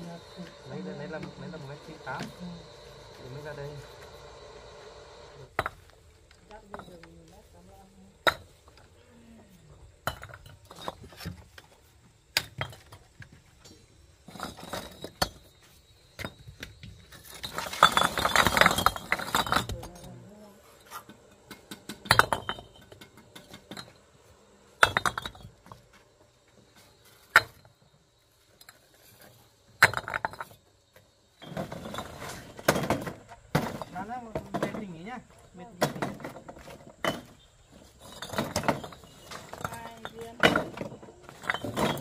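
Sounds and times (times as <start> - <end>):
bricks clinking and knocking: 0.0 - 4.2, 5.4 - 7.4, 8.2 - 9.0, 9.7 - 24.2, 24.8 - 27.9, 28.5 - 30.7, 31.4 - 42.0.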